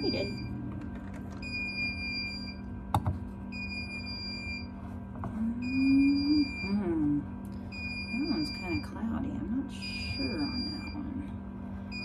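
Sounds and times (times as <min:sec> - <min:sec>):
incubator alarm beeping: 0:00.0 - 0:12.0.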